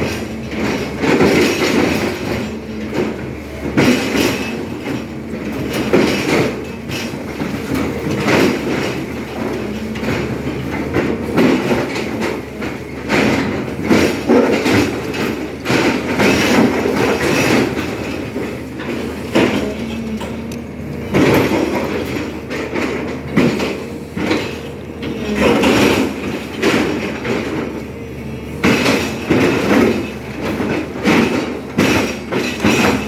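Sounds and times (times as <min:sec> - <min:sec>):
excavator diesel engine: 0:00.0 - 0:33.0
metallic clanking and scraping: 0:00.0 - 0:33.0.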